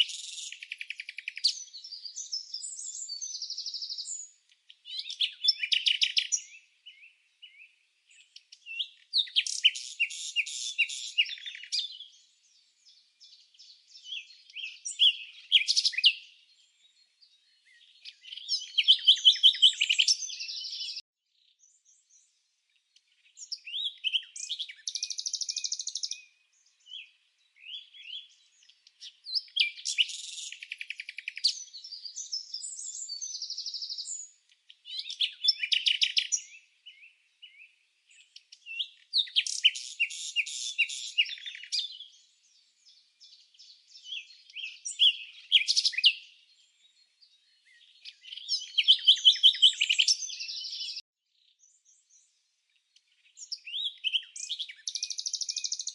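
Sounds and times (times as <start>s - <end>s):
small songbirds chirping: 0.0s - 55.9s.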